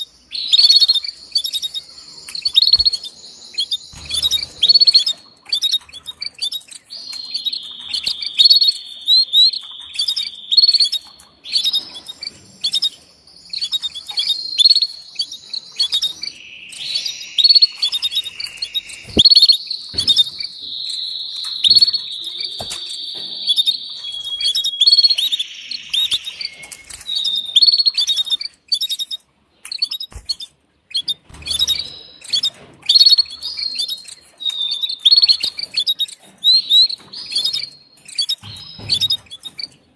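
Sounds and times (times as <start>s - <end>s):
canary chirping and trilling: 0.0s - 39.9s.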